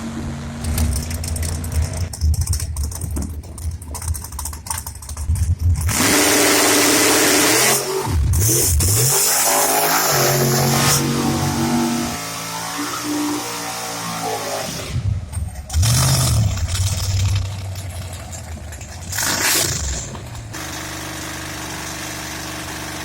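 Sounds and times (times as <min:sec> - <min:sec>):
drag race car engine: 0:00.0 - 0:23.0.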